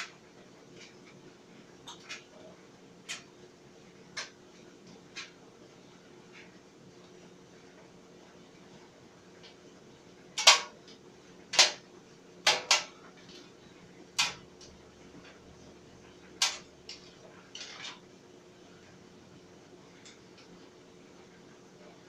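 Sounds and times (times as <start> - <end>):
clothes dryer humming: 0.0 - 22.0.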